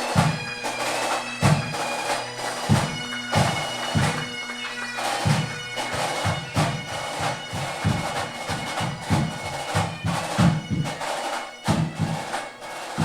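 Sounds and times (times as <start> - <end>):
bagpipes playing tune: 0.0 - 13.0
drum beats: 0.0 - 13.0.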